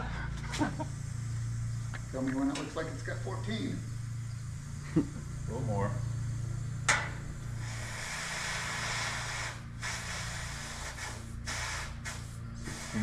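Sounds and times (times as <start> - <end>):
compressed air hissing into tire: 0.2 - 13.0.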